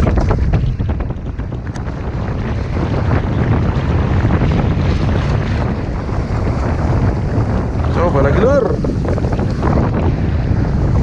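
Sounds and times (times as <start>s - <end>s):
waves splashing over concrete: 0.0s - 11.0s
wind buffeting microphone: 0.0s - 11.0s.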